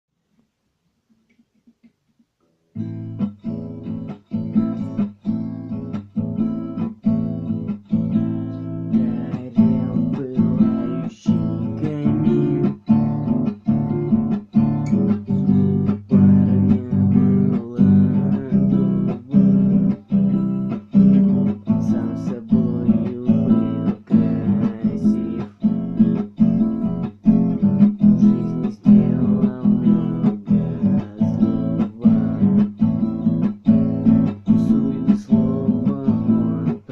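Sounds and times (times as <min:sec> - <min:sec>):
acoustic guitar strumming: 0:02.8 - 0:36.9.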